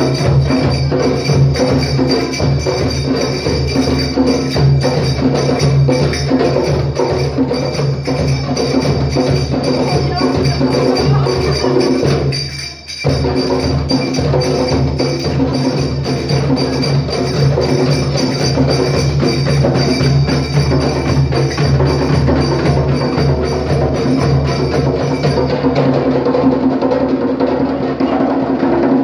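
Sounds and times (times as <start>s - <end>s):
tambourine jingling: 0.0s - 26.6s
hand drums playing rhythm: 0.0s - 29.0s.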